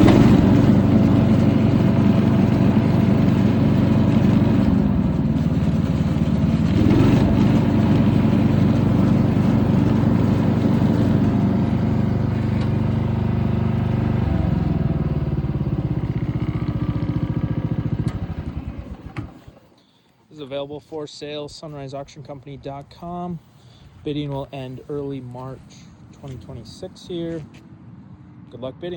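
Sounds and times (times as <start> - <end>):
riding mower engine running: 0.0 - 19.8, 22.5 - 28.9.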